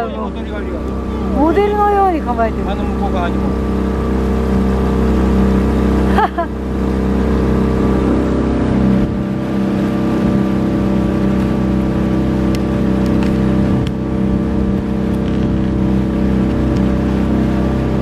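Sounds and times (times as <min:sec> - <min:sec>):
boat engine running: 0:00.0 - 0:18.0
water rushing from wake: 0:00.0 - 0:18.0.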